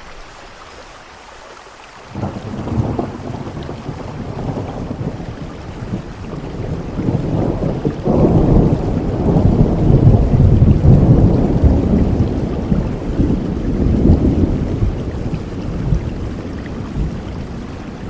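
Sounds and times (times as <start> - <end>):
heavy rain: 0.0 - 18.0
thunder rumbling: 2.1 - 18.0.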